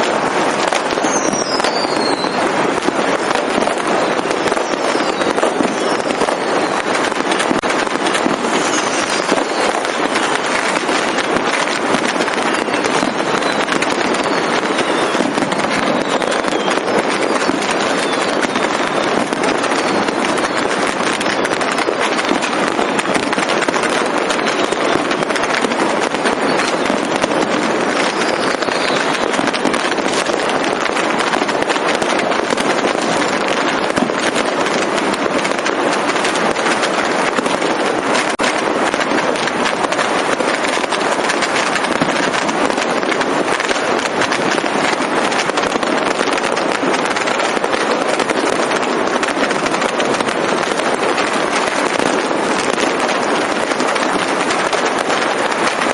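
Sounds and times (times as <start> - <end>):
firecrackers and fireworks exploding: 0.0 - 55.9.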